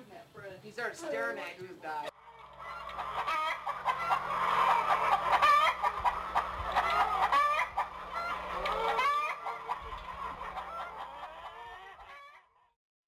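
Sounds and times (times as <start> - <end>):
chicken clucking: 2.0 - 12.8.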